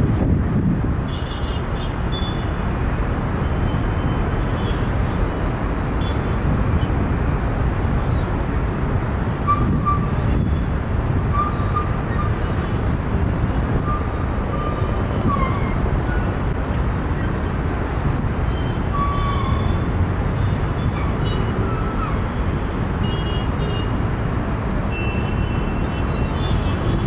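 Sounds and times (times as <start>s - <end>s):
engine and traffic rumble: 0.0s - 27.0s.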